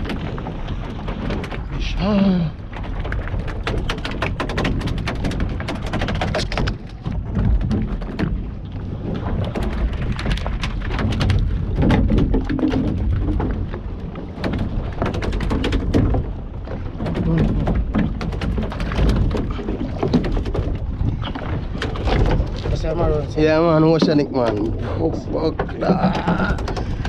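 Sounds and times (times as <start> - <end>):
rapid irregular knocks and thuds: 0.0 - 27.0.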